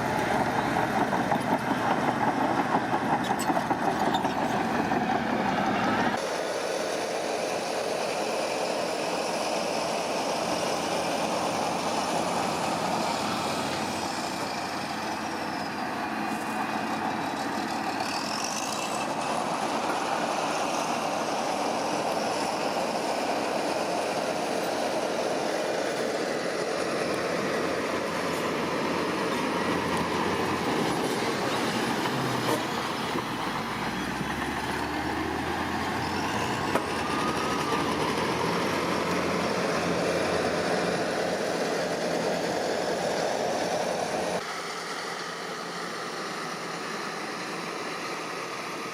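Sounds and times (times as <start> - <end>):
construction machinery running: 0.0 - 48.9.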